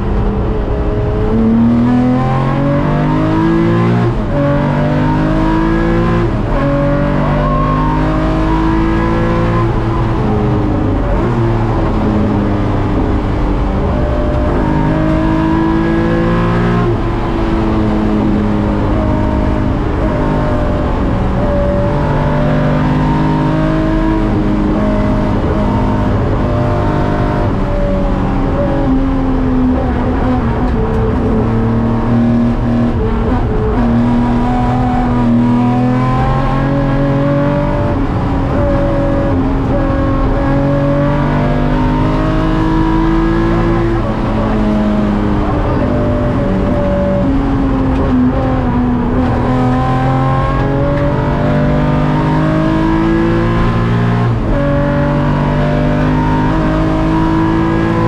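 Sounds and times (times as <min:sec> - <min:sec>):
racing car engine accelerating: 0:00.0 - 0:58.0.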